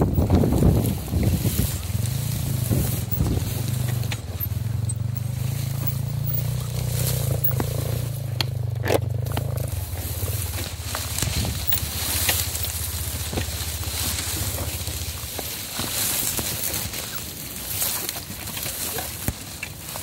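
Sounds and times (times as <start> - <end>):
dry grass stalks snapping: 0.0 - 20.0
motorcycle engine running: 0.0 - 20.0.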